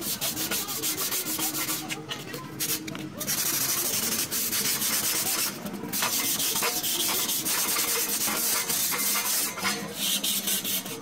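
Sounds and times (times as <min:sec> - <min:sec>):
sandpaper rasping on metal: 0:00.0 - 0:11.0.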